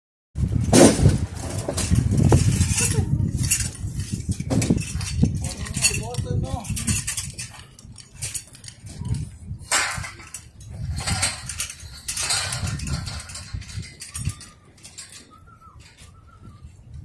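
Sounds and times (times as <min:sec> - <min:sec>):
steel braces clanking and rattling: 0:00.4 - 0:16.6.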